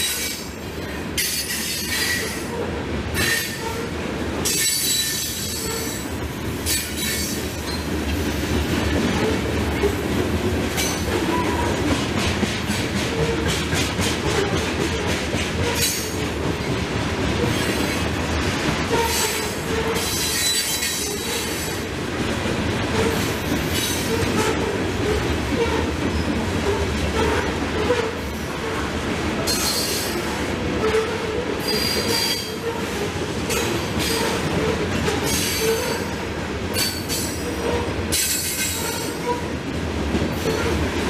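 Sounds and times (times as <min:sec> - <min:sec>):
train wheels clacking: 0:00.0 - 0:41.0
train wheels rumbling on rails: 0:00.0 - 0:41.0.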